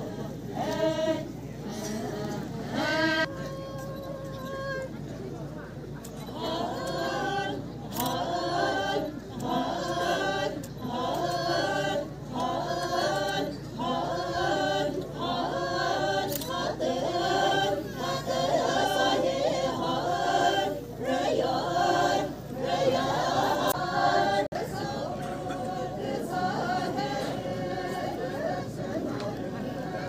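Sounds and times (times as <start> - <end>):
women singing in unison: 0.0 - 5.3, 6.0 - 30.0.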